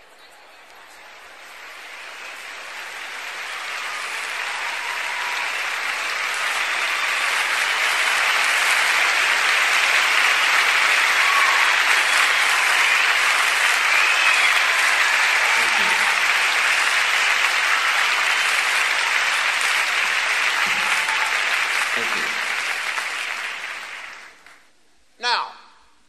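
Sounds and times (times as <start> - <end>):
audience applauding: 0.0 - 24.7.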